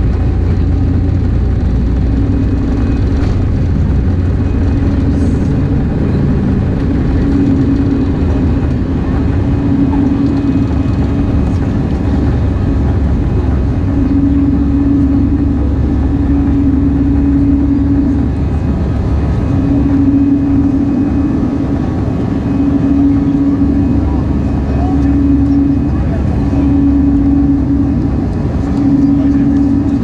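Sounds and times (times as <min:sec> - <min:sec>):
humming: 0:00.0 - 0:30.0
low engine rumble: 0:00.0 - 0:30.0.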